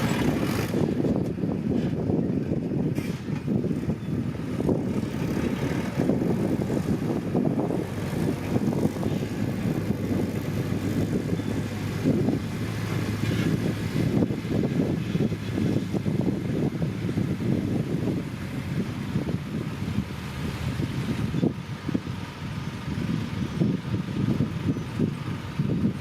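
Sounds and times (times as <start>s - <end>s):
heavy machinery diesel engine running: 0.0s - 26.0s.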